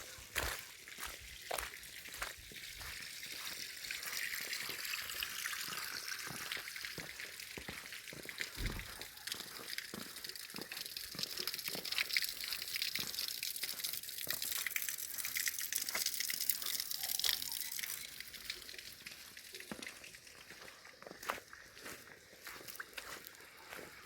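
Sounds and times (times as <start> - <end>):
small water drips: 0.0 - 24.0
water running and splashing: 0.0 - 24.0.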